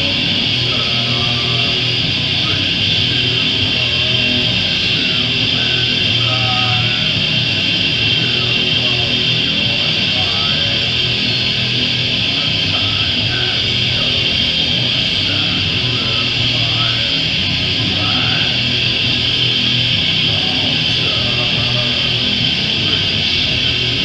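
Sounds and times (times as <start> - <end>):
metal band playing live: 0.0 - 24.0.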